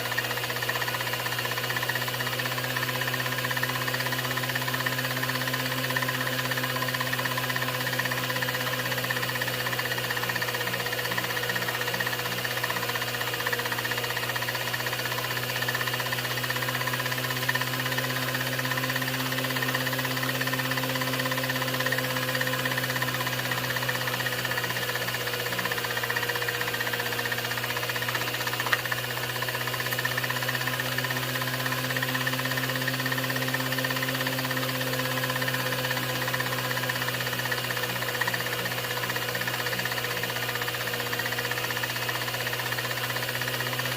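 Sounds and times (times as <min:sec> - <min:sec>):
film projector running: 0:00.0 - 0:43.9.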